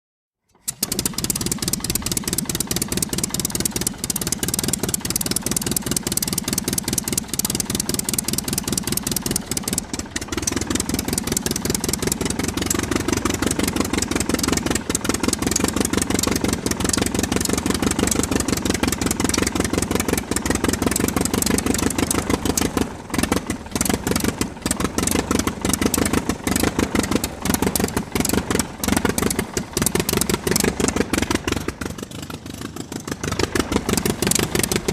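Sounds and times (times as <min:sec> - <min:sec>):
aircraft engine running: 0:00.6 - 0:34.9.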